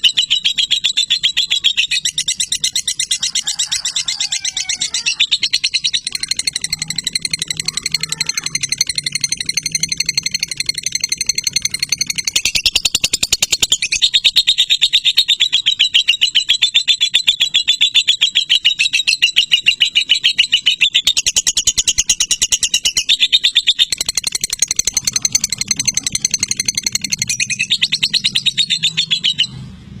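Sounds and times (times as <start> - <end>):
lovebird chattering trills: 0.0 - 29.5.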